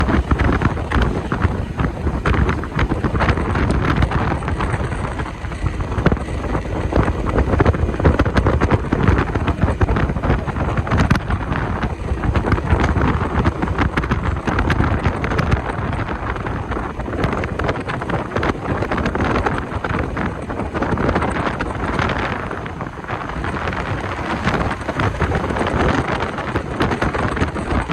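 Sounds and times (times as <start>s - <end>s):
motorcycle riding: 0.0s - 27.9s
wind buffeting microphone: 0.0s - 27.9s.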